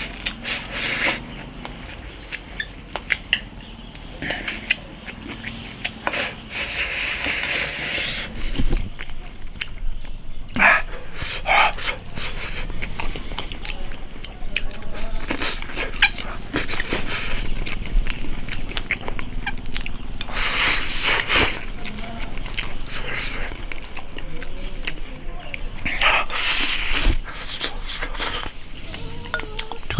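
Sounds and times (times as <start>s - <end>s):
man chewing and lip smacking: 0.0s - 29.9s.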